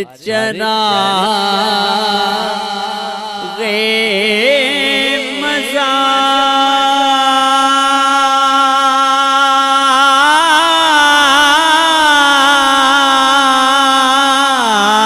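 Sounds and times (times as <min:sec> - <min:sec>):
man singing wordless melisma: 0:00.0 - 0:15.0.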